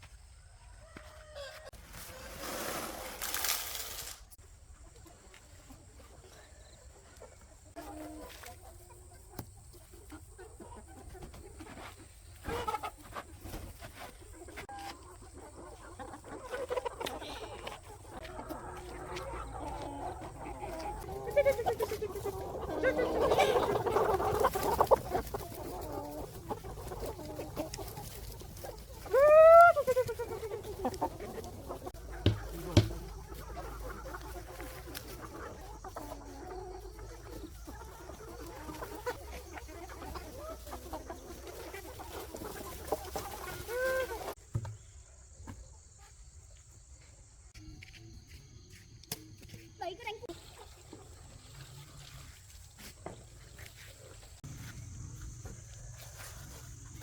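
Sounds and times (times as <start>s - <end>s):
chickens clucking: 4.4s - 57.0s.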